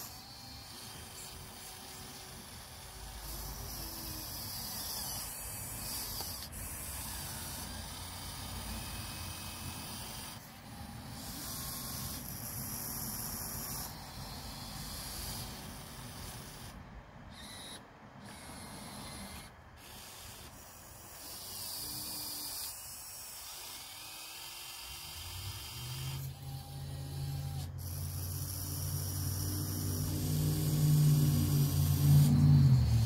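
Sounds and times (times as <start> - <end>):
electric gear motors whirring: 0.0 - 33.0.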